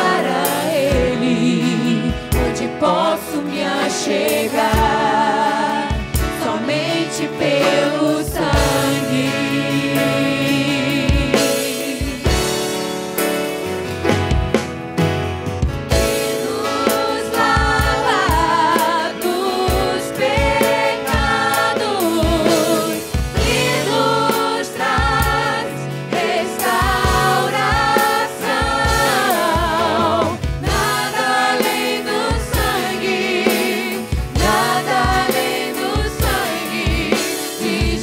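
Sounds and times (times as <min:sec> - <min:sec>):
singers in unison: 0:00.0 - 0:12.7, 0:16.3 - 0:38.0
guitar: 0:00.0 - 0:38.0
keyboard: 0:00.0 - 0:38.0.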